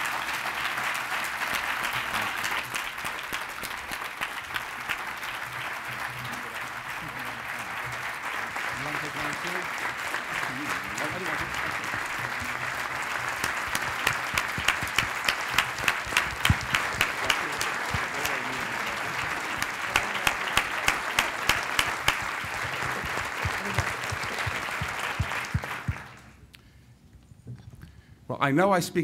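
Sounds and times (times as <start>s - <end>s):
audience applause: 0.0s - 26.4s
close hand claps: 0.0s - 26.4s.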